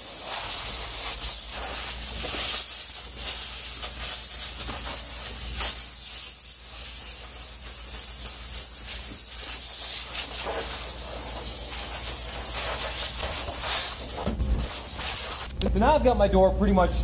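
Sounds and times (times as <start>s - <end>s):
compressed air hissing: 0.0s - 15.6s.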